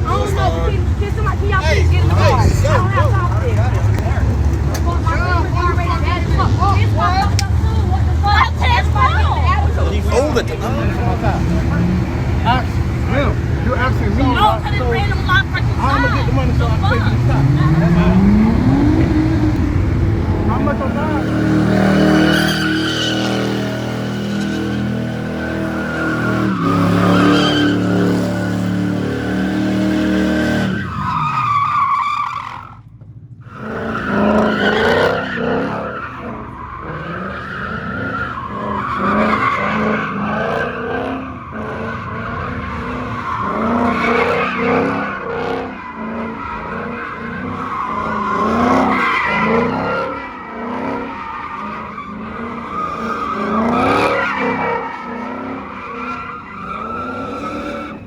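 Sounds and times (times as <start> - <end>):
tyres squealing: 0.0 - 32.8, 33.5 - 58.0
car engine revving: 0.0 - 58.0.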